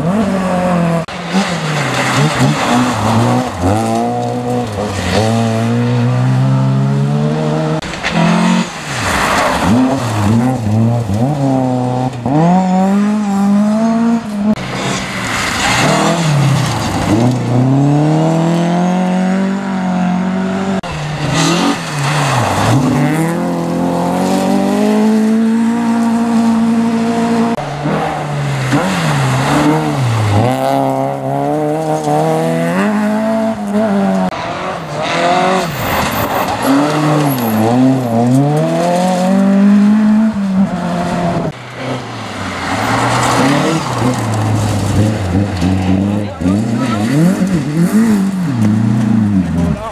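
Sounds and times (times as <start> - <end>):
rally car engines revving: 0.0 - 49.9
tyres on gravel: 1.0 - 6.3, 7.8 - 19.7, 20.4 - 26.3, 27.6 - 49.9.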